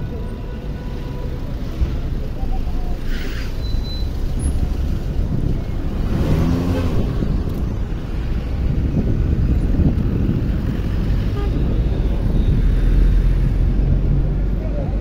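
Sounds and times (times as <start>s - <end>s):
cars driving past: 1.5s - 15.0s.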